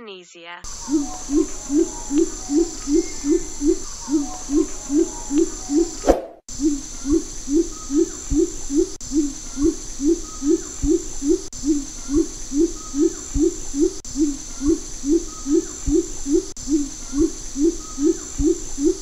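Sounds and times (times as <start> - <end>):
bird hooting calls: 0.7 - 19.0
steady high hiss: 0.7 - 19.0.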